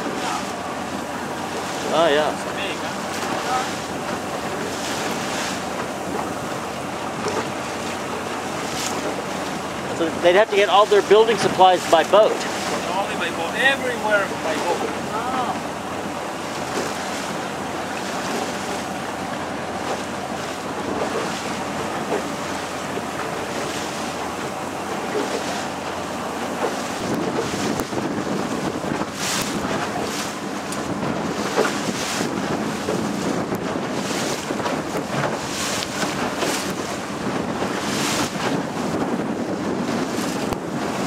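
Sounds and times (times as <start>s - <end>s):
boat engine hum: 0.0s - 41.0s
rushing water: 0.0s - 41.0s
wind buffeting microphone: 0.0s - 41.0s.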